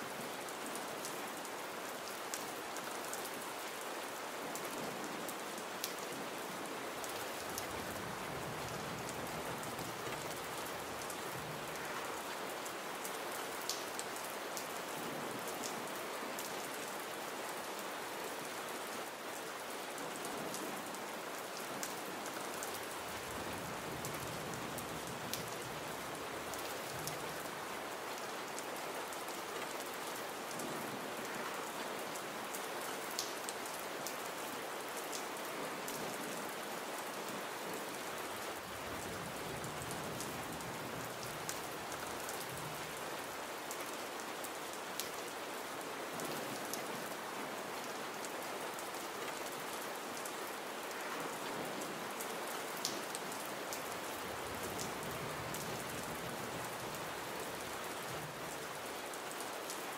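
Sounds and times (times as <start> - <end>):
gentle rain: 0.0 - 59.9.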